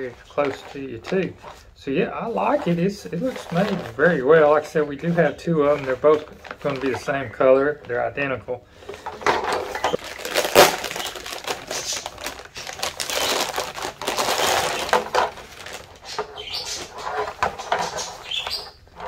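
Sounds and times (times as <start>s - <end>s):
plastic bag crinkling: 0.0s - 8.1s, 8.8s - 19.0s.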